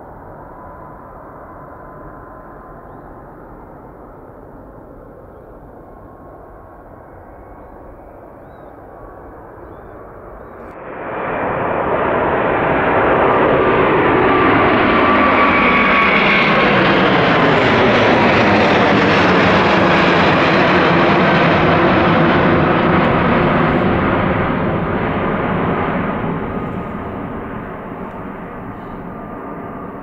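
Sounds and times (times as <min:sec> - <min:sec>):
faint jet engine whine: 0:00.0 - 0:30.0
jet roar overhead: 0:00.0 - 0:30.0.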